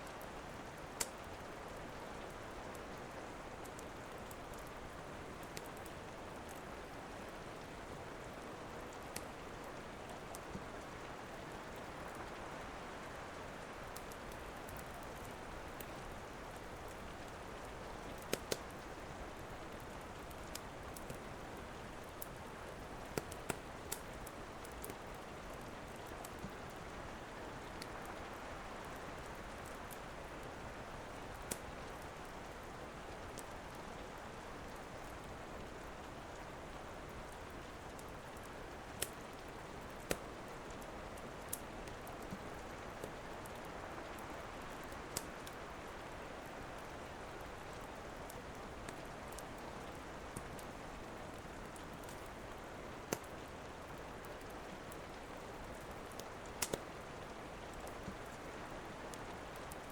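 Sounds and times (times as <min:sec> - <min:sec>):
steady rain: 0:00.0 - 0:59.9
wood fire popping and crackling: 0:00.1 - 0:12.5, 0:13.1 - 0:33.8, 0:34.8 - 0:59.9.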